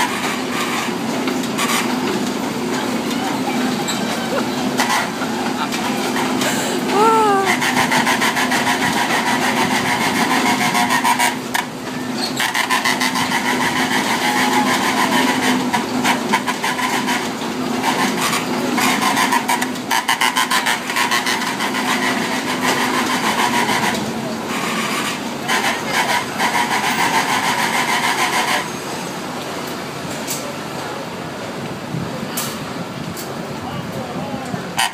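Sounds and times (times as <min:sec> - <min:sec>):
ride mechanical hum: 0:00.0 - 0:34.9.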